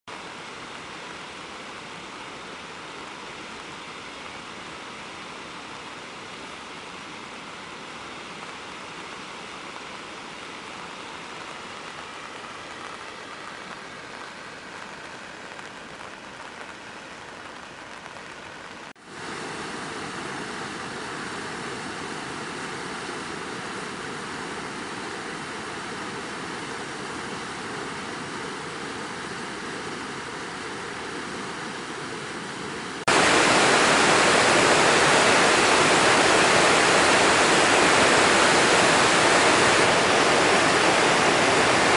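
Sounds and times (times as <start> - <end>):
water rushing over spillway: 0.1 - 41.9.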